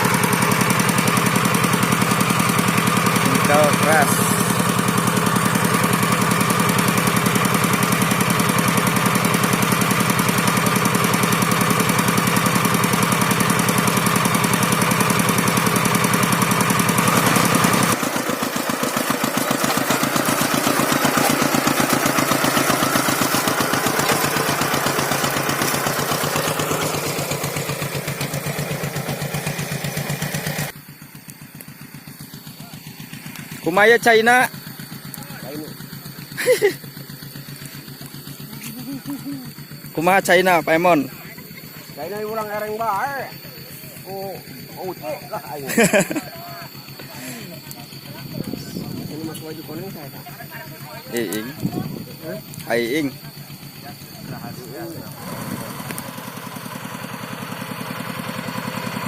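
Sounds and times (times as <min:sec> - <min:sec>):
tractor engine chugging: 0:00.0 - 0:59.0.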